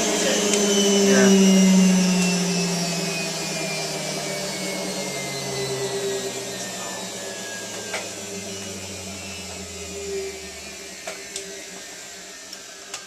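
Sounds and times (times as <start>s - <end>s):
low hum: 0.0s - 11.6s
washing machine motor whine: 0.0s - 13.0s.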